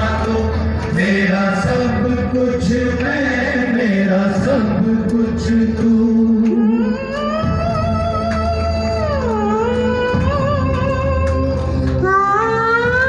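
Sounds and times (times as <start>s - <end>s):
person singing into a microphone: 0.0s - 13.0s
recorded backing music: 0.0s - 13.0s.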